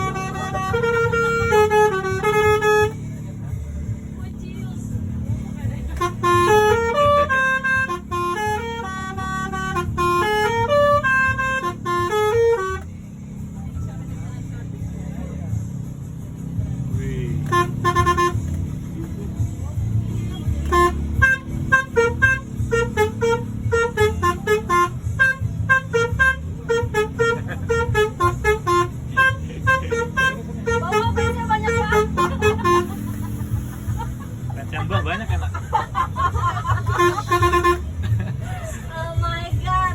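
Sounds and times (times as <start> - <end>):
bus melody horn: 0.0 - 39.9.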